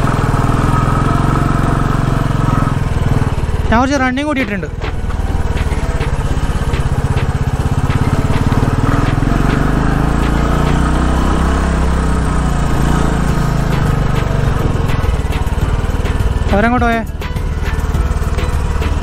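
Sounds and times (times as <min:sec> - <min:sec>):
light rattles over bumps: 0:00.0 - 0:19.0
motorcycle engine under load: 0:00.0 - 0:19.0.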